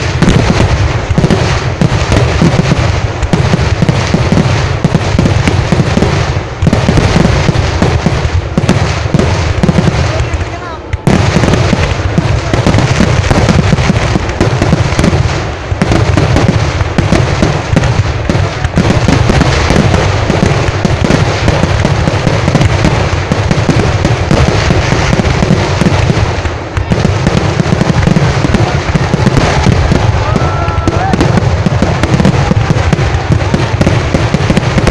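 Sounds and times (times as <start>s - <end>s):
firecrackers cracking and banging: 0.0s - 34.9s.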